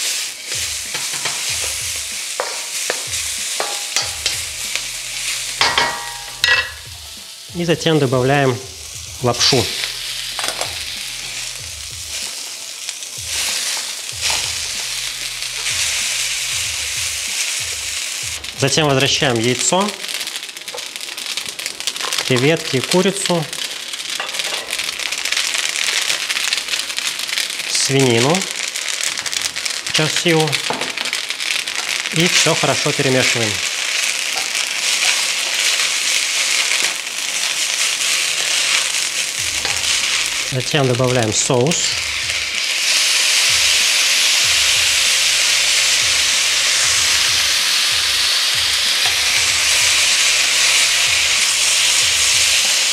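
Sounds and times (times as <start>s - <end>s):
stir-frying sizzle in wok: 0.0s - 52.9s.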